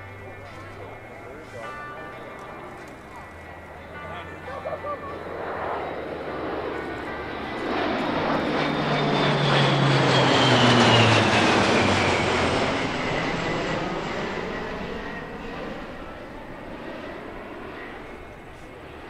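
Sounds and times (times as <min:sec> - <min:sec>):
high turbine whine: 0:00.0 - 0:19.0
low propeller hum: 0:00.0 - 0:19.0
turboprop aircraft passing overhead: 0:00.0 - 0:19.0.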